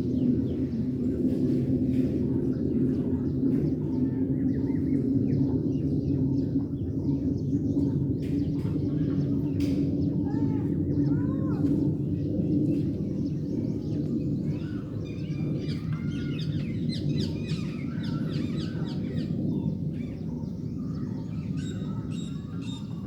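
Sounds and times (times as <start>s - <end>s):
many birds chirping: 0.0s - 23.0s.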